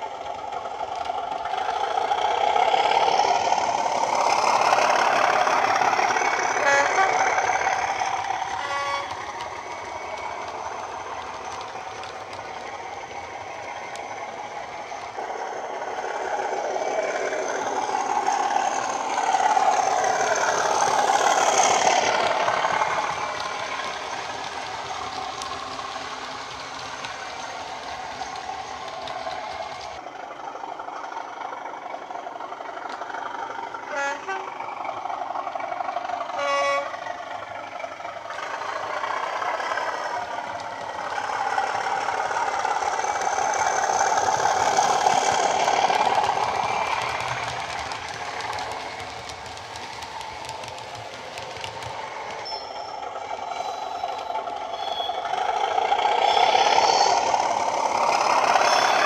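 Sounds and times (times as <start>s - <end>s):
model train diesel engine sound: 0.0s - 59.0s.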